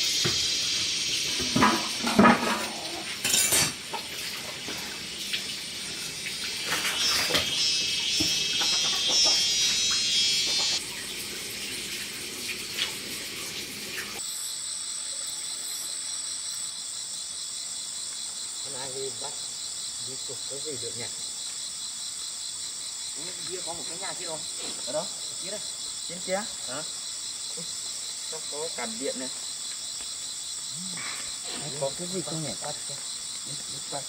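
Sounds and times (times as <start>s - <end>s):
crickets chirring: 0.0s - 34.0s.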